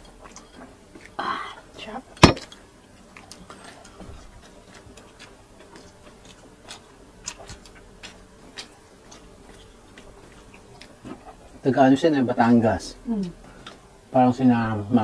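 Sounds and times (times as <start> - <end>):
mouths chewing food: 0.0 - 12.0, 13.2 - 13.9.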